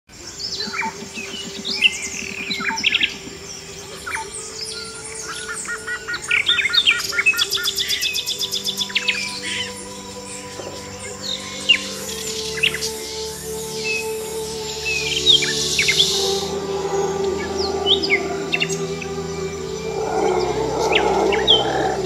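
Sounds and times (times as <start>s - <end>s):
birds chirping and whistling: 0.2s - 22.0s.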